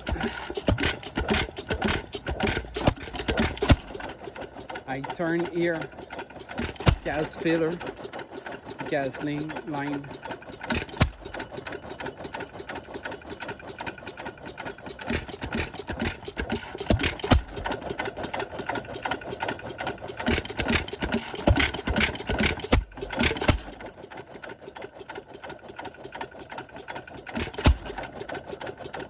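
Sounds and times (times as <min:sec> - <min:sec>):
stationary engine clattering: 0:00.0 - 0:29.0.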